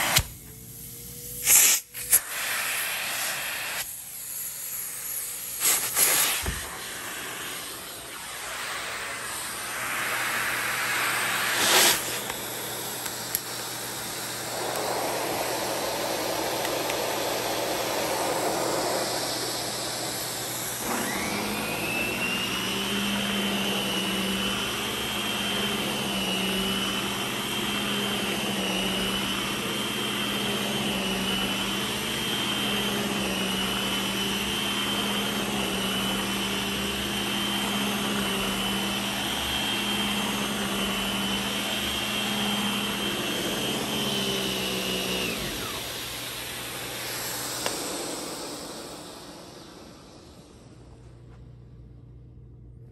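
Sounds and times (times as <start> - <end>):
vacuum suction air rushing: 0.0 - 51.0
electric powerhead whine: 0.0 - 51.1.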